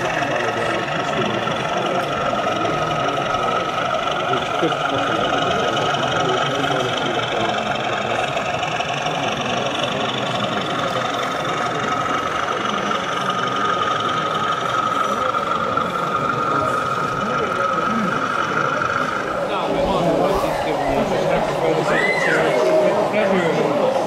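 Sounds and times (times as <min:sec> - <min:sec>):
model train diesel engine sound: 0:00.0 - 0:24.0.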